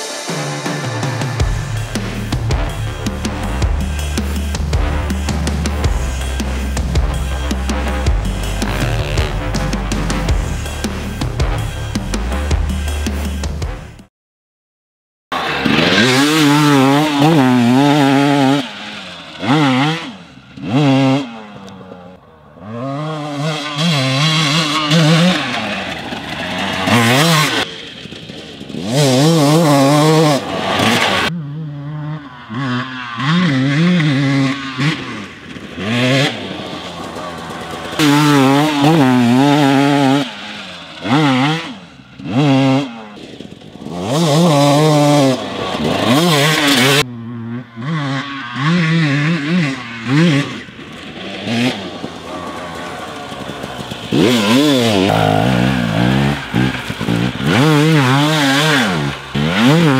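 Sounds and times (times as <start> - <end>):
dirt bike engine revving: 0.0 - 14.1, 15.3 - 59.9.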